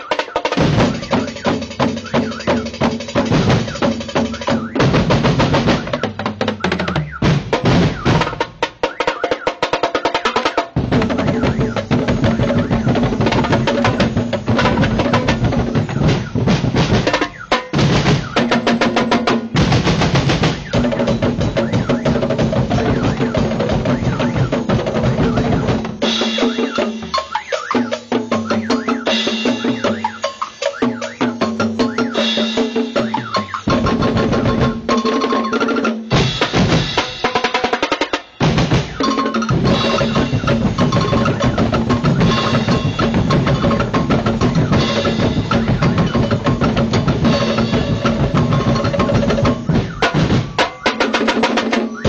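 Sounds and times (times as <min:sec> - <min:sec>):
bass drums: 0:00.0 - 0:08.8, 0:10.7 - 0:35.0, 0:36.1 - 0:37.4, 0:38.4 - 0:50.8
snare and tom drums: 0:00.0 - 0:52.0.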